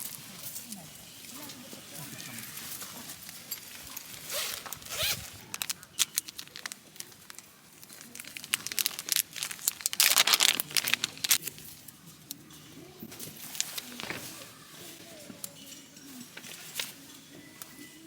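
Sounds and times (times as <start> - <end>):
crinkling and rustling: 0.0 - 18.0.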